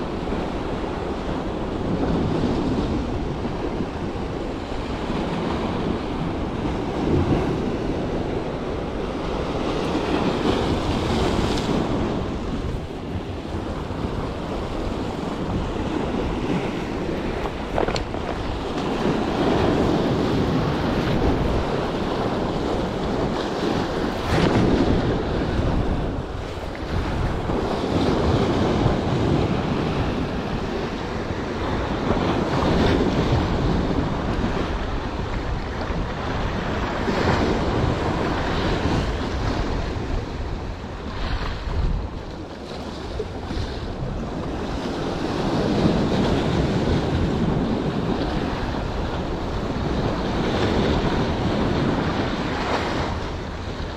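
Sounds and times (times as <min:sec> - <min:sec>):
waves washing against rocks: 0:00.0 - 0:53.9
wind buffeting microphone: 0:00.0 - 0:53.9.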